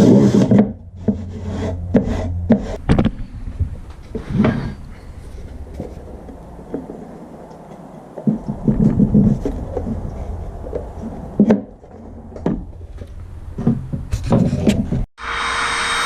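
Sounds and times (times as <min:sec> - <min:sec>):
clunks and rubbing: 0:00.0 - 0:15.1
low steady hum: 0:00.4 - 0:14.2.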